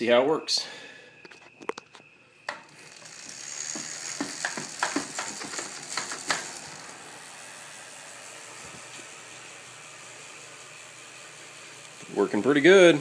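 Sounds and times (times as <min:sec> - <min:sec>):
bicycle wheel clicking: 0:02.5 - 0:13.0
wheel whirring hiss: 0:02.5 - 0:13.0.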